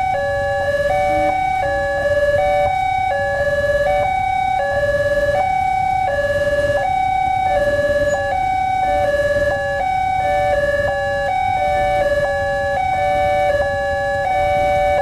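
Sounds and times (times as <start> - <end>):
level crossing warning sirens: 0.0 - 15.0.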